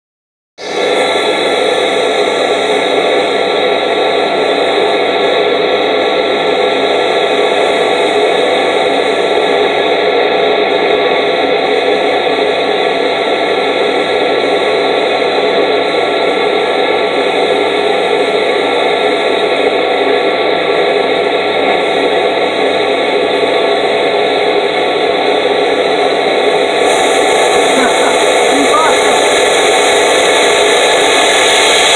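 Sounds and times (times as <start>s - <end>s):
vacuum cleaner running: 0.6s - 31.9s.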